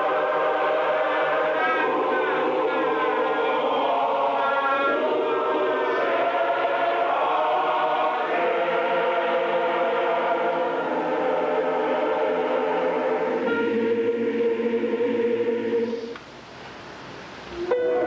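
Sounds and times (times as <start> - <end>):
choir singing in harmony: 0.0 - 16.2, 17.8 - 18.0.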